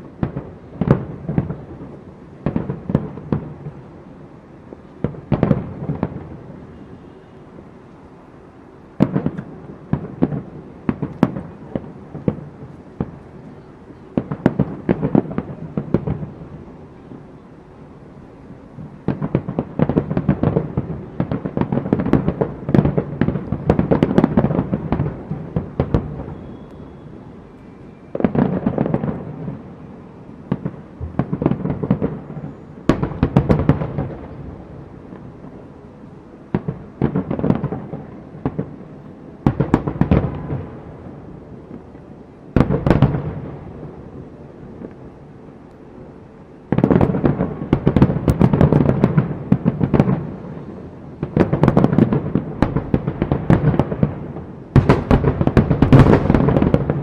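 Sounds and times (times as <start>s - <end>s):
fireworks cracking and booming: 0.0s - 8.2s, 8.9s - 35.7s, 36.4s - 45.5s, 46.6s - 57.0s.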